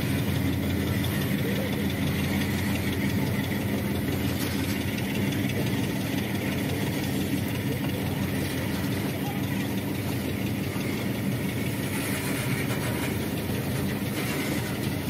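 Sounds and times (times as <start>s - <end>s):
diesel locomotives droning: 0.0s - 15.0s
freight cars rumbling past: 0.0s - 15.0s.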